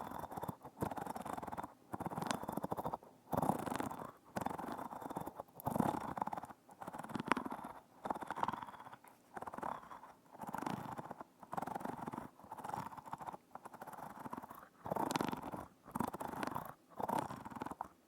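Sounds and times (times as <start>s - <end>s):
close-miked rubbing and crackling: 0.0s - 18.0s.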